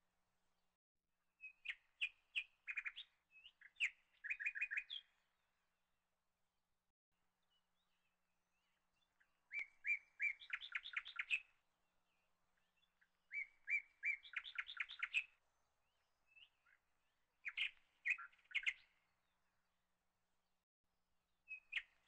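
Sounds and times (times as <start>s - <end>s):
songbird chirping: 1.4s - 5.8s, 7.3s - 20.1s, 21.4s - 22.0s.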